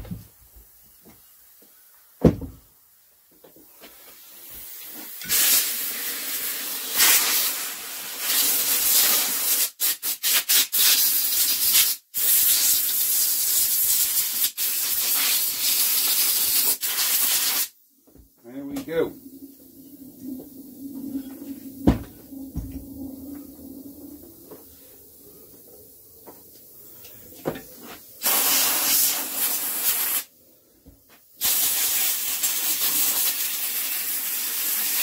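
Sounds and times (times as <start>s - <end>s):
compressed air blow gun hissing: 4.2s - 17.8s, 18.4s - 30.5s, 31.4s - 35.0s.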